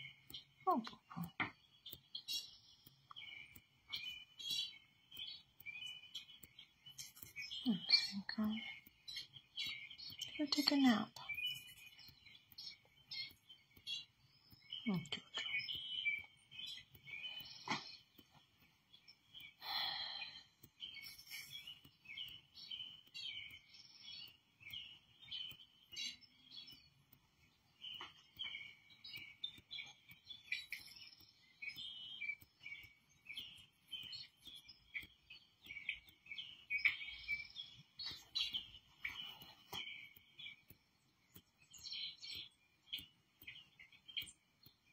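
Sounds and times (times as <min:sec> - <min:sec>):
birds chirping through tv speakers: 0:00.0 - 0:44.9.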